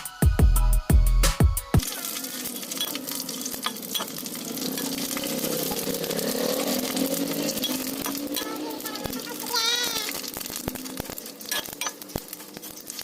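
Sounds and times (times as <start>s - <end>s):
food sizzling in a pan: 1.8s - 13.0s.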